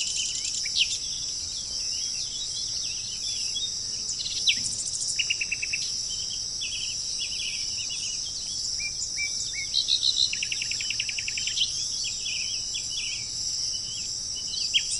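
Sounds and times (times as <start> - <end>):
high-pitched insect drone: 0.0 - 14.9
songbirds chirping and trilling: 0.0 - 14.9.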